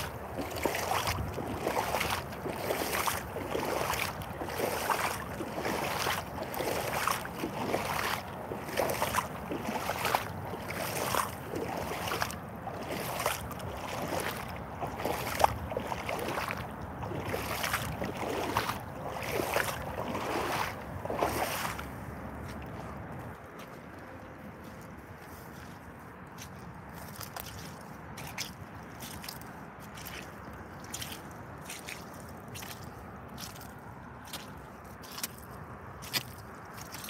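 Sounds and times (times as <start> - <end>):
boots splashing through muddy water: 0.0 - 37.0.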